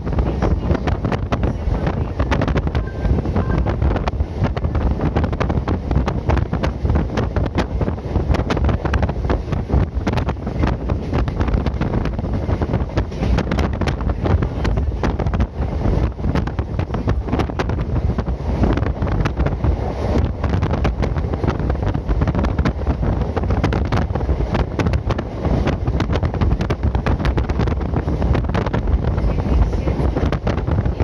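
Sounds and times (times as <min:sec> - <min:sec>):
train rumbling on track: 0:00.0 - 0:31.0
wind buffeting microphone: 0:00.0 - 0:31.0.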